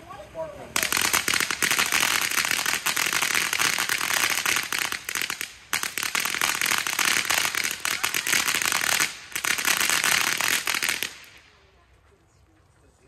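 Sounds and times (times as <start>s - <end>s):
fireworks crackling: 0.2s - 11.8s.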